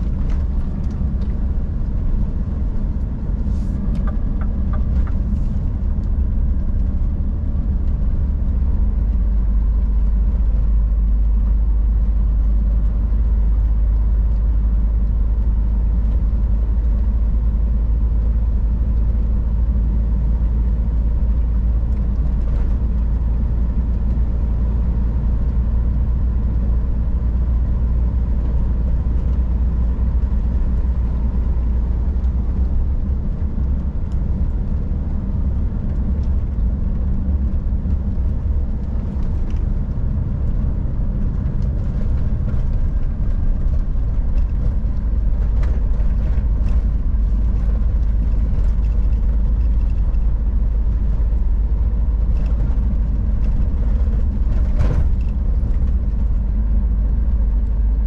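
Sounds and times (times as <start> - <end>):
truck diesel engine droning: 0.0 - 58.0
tyre and road rumble: 0.0 - 58.0.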